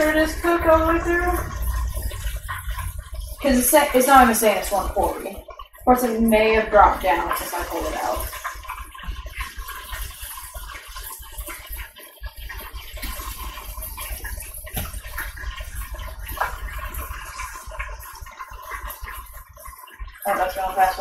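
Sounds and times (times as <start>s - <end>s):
oil bubbling and sizzling: 0.0s - 21.0s.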